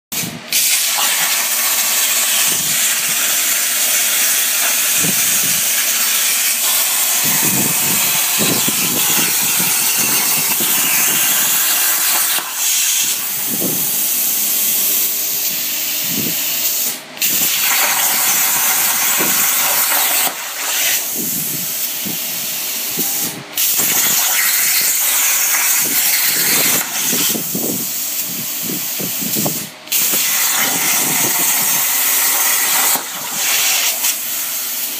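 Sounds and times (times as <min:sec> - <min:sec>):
plasma cutter hissing: 0:00.1 - 0:34.9.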